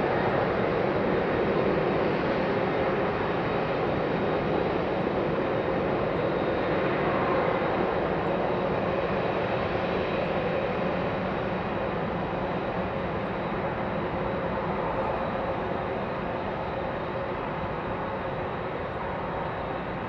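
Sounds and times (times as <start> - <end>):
jet engines rushing with high whine: 0.0 - 20.0.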